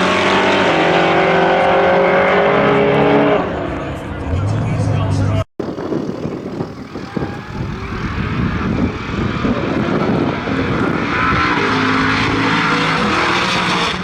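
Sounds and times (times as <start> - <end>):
drag racing engine at full throttle: 0.0 - 14.0.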